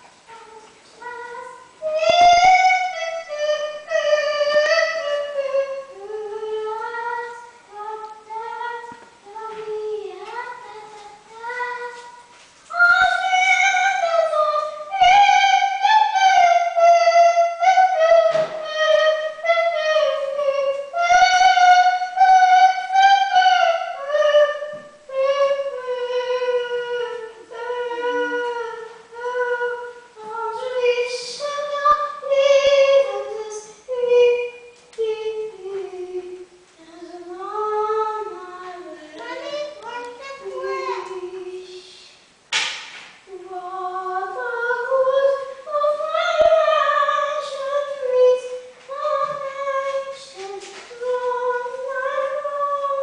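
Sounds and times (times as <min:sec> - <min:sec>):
girl singing operatic notes: 0:00.0 - 0:42.2, 0:43.3 - 0:53.0.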